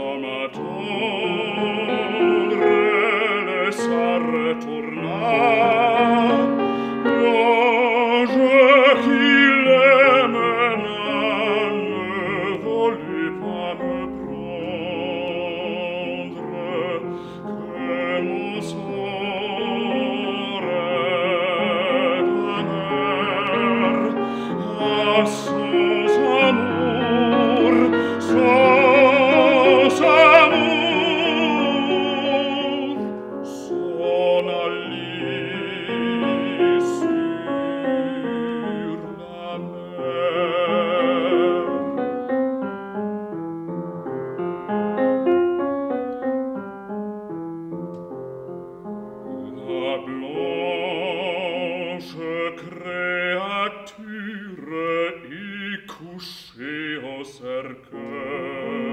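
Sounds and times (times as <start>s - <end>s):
baritone singing with vibrato: 0.0s - 42.7s, 49.2s - 58.9s
grand piano accompaniment: 0.0s - 58.9s.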